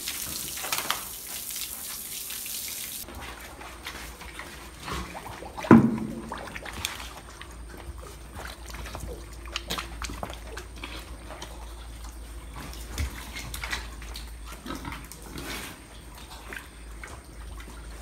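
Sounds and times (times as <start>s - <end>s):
pigs eating at a trough: 3.0s - 18.0s.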